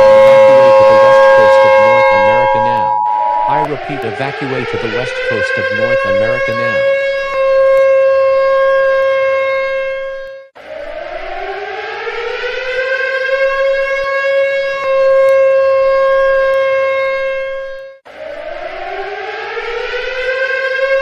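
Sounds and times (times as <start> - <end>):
warning siren wailing: 0.0 - 21.0.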